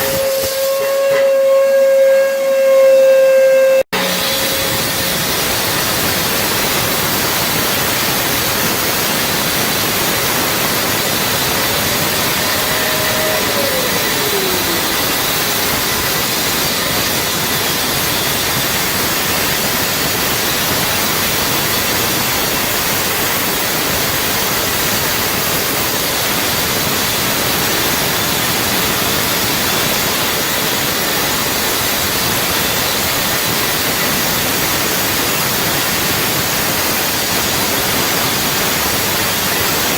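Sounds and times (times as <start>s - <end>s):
power tool running with hiss: 0.0s - 1.0s, 4.0s - 39.9s.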